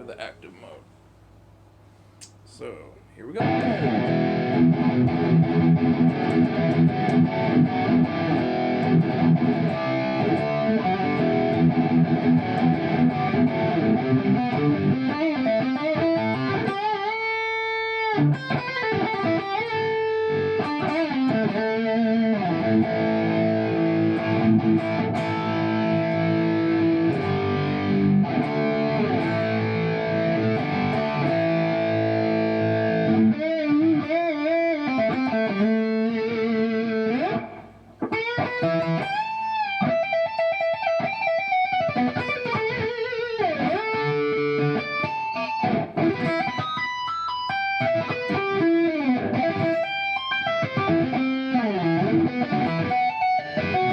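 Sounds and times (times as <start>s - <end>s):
distorted electric guitar riffing: 3.3s - 53.9s.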